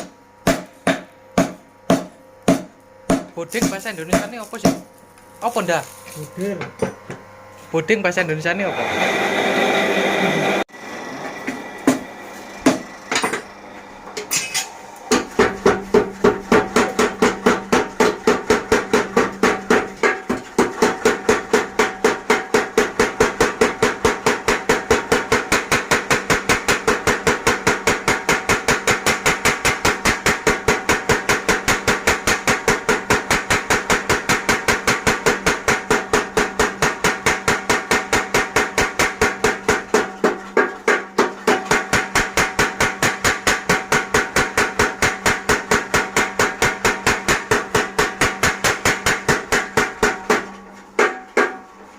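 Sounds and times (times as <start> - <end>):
power hammer pounding steel: 0.0 - 4.9, 9.0 - 51.6.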